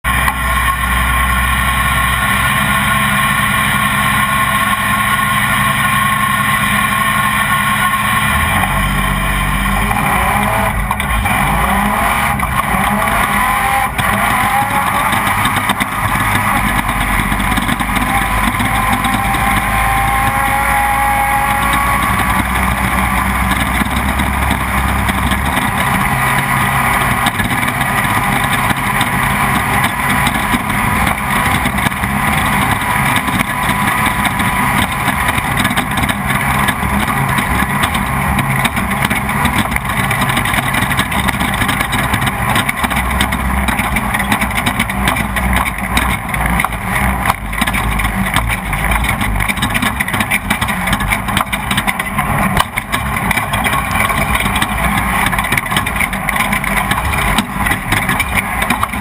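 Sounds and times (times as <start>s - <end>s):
race vehicle engine accelerating: 0.0s - 59.0s
steady rushing noise: 0.0s - 59.0s.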